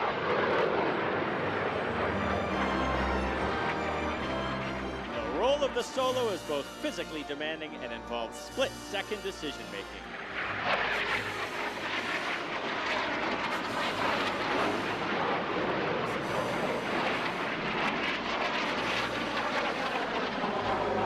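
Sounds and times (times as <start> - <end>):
jet engines passing overhead: 0.0 - 21.0.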